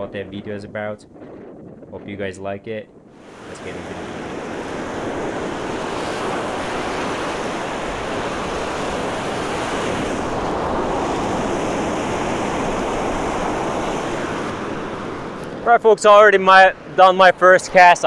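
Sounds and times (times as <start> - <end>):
wind: 0.0 - 18.0
ocean surf breaking: 3.1 - 18.0.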